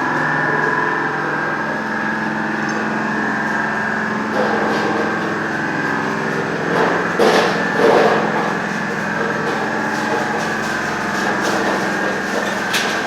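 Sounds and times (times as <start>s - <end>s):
lathe whining: 0.0s - 13.0s
rough noisy machine sound: 0.0s - 13.0s.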